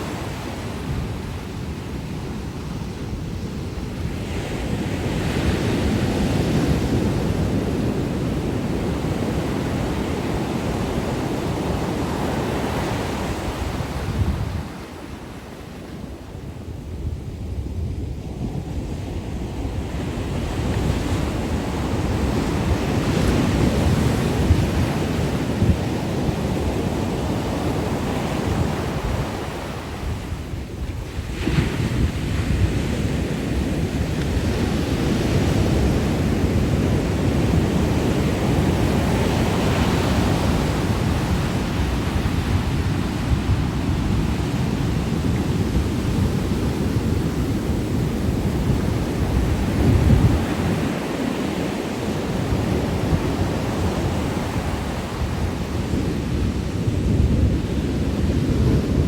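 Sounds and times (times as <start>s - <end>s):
ocean surf breaking: 0.0s - 16.9s, 17.9s - 59.0s
wind buffeting microphone: 0.0s - 59.0s.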